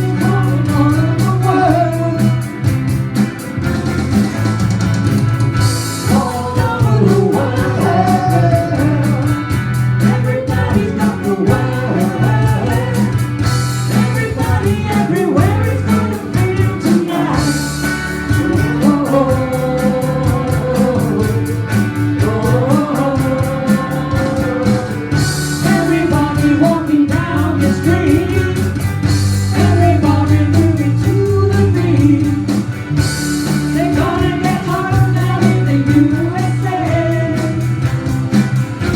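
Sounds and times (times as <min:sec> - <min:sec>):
bass: 0:00.0 - 0:38.9
drum beat: 0:00.0 - 0:38.9
melodic lead line: 0:00.0 - 0:38.9.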